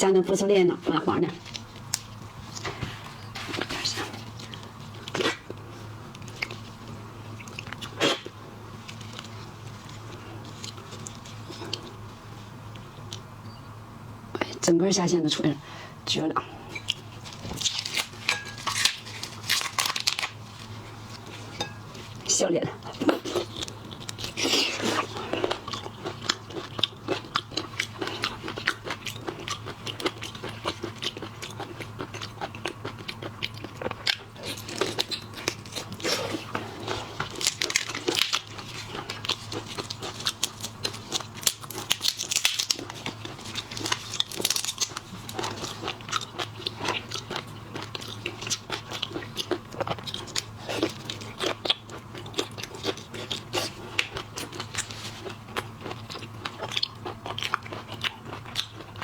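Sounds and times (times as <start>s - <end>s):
steady low hum: 0.0s - 59.0s
wet chewing and crunching: 1.3s - 13.3s, 16.7s - 59.0s.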